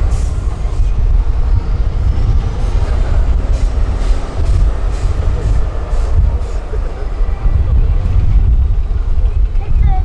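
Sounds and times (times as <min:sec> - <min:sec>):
truck diesel engine rumbling: 0:00.0 - 0:10.0.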